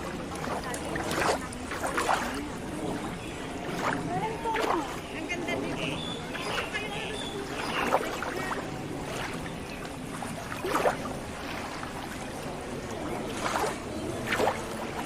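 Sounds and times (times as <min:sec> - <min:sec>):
running water: 0:00.0 - 0:15.0
water swishes: 0:00.0 - 0:15.0.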